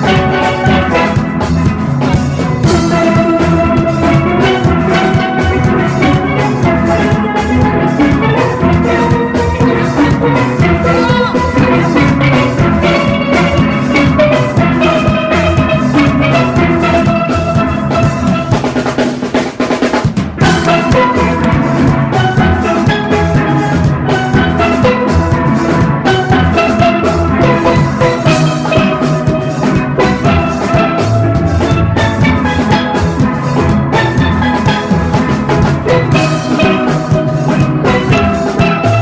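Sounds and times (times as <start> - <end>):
drum kit and percussion: 0.0 - 39.0
steel pans playing: 0.0 - 39.0.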